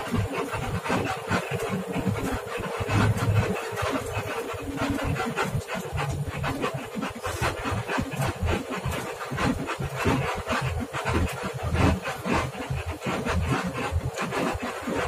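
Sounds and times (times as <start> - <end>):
bus engine and road rumble: 0.0 - 15.0
rattling and buffeting: 0.0 - 15.0.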